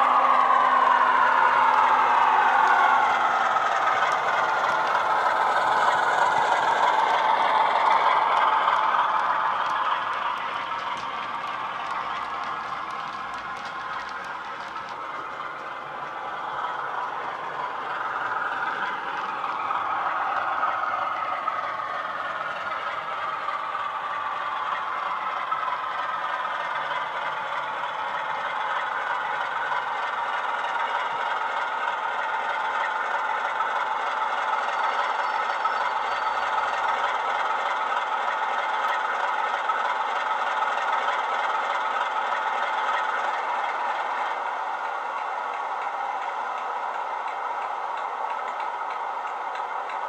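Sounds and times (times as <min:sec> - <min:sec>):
diesel engine sound from speakers: 0:00.0 - 0:50.0
model train rattling on track: 0:00.0 - 0:50.0.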